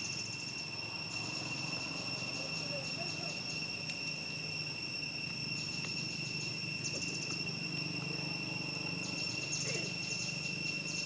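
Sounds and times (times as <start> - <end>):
insect chirps: 0.0 - 11.0
insects droning: 0.0 - 11.0.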